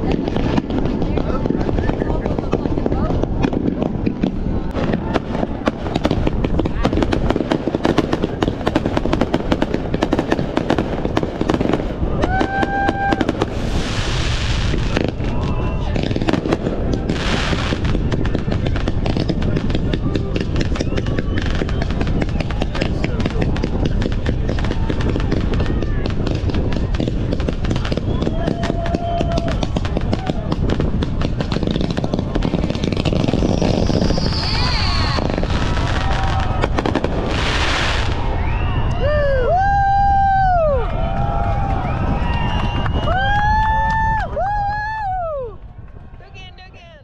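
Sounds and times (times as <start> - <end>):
fireworks popping and crackling: 0.0 - 47.0.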